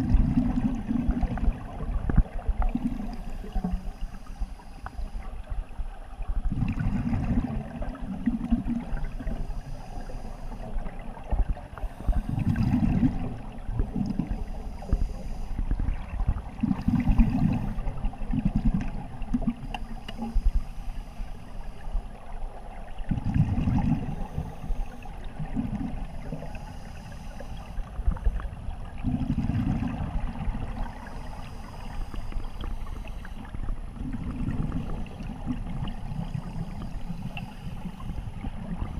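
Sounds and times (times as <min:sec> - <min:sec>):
constant watery hiss: 0:00.0 - 0:38.9
exhaled bubbles gurgling underwater: 0:00.0 - 0:38.9.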